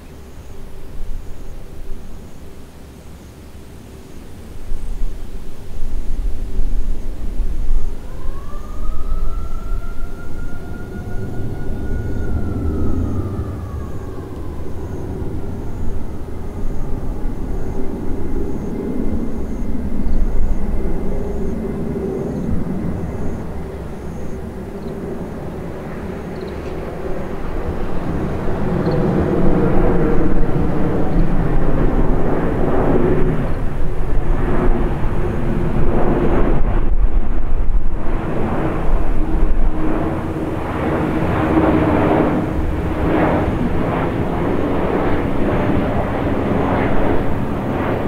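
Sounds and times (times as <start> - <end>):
jet engines flying overhead: 0.0 - 48.0.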